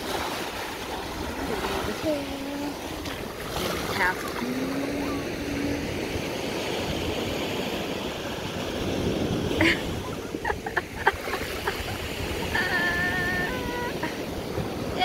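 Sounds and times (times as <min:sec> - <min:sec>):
small waves washing on shore: 0:00.0 - 0:15.0
wind on microphone: 0:01.1 - 0:15.0.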